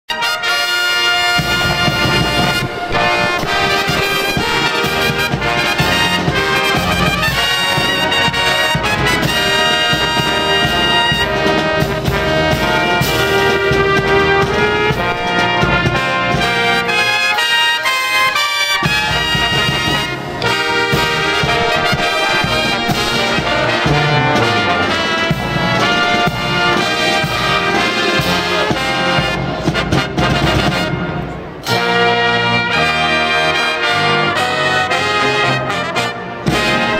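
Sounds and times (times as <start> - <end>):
brass band playing: 0.1 - 36.9.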